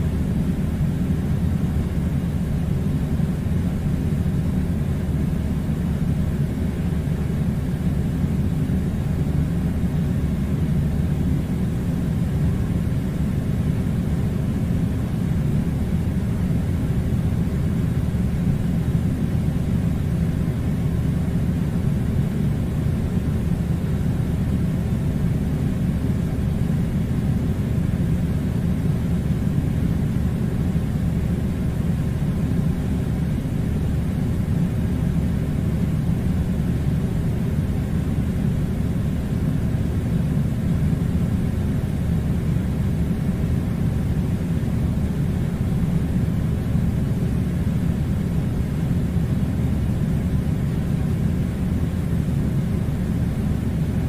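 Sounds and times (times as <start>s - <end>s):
air conditioner low rumble: 0.0s - 54.0s.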